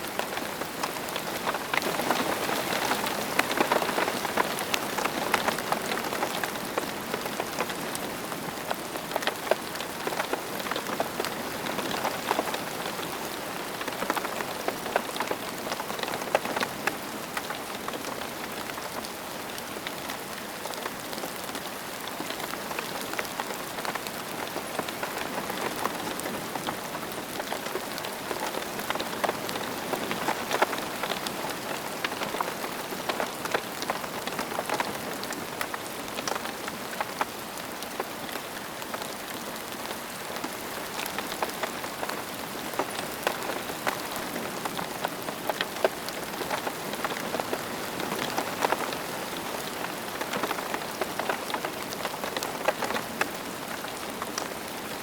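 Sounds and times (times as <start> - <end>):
rain on hard surfaces: 0.0 - 55.0.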